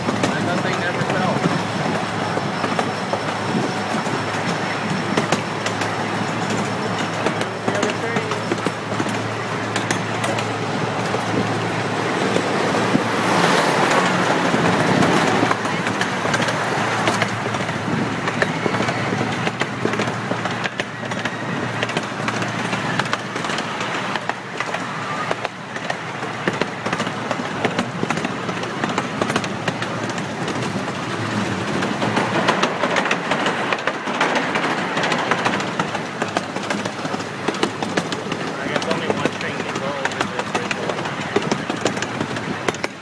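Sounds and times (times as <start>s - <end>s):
ride cars rumbling: 0.0s - 43.0s
wheels clicking over rail joints: 0.0s - 43.0s.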